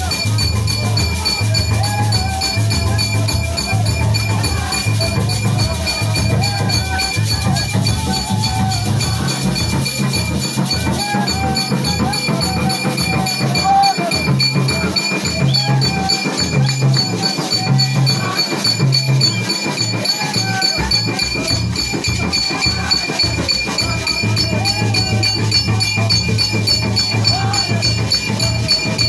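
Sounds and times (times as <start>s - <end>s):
pulsing bass rhythm: 0.0s - 29.0s
tambourines or shakers: 0.0s - 29.0s
voices singing: 0.0s - 29.0s.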